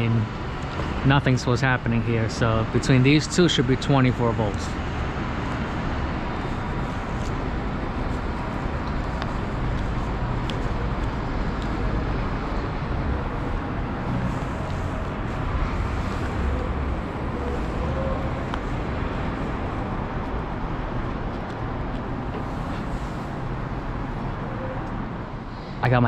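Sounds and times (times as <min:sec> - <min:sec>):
low traffic rumble: 0:00.0 - 0:26.0.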